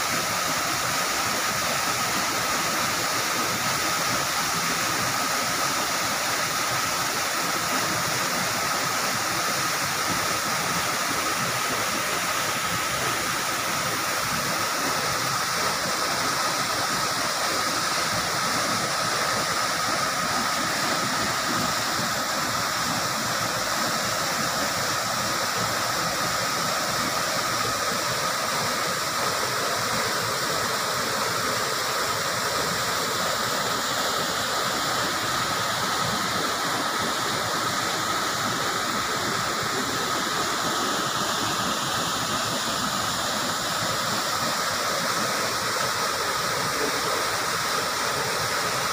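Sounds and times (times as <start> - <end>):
waterfall rushing into a pool: 0.0 - 48.9.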